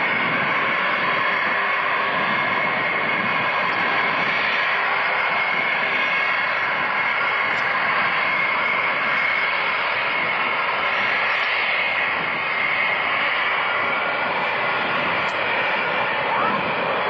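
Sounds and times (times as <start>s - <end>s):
jet engines roaring at takeoff: 0.0s - 17.0s.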